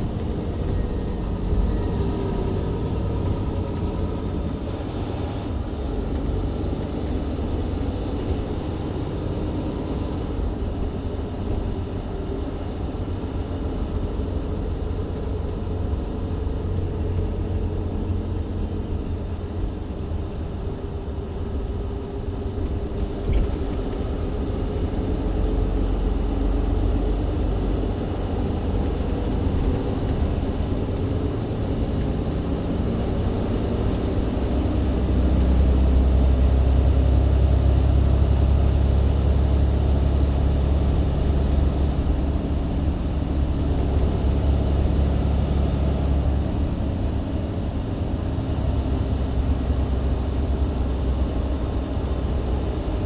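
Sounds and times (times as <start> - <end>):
bus engine rumble: 0.0 - 53.0
road noise: 0.0 - 53.0.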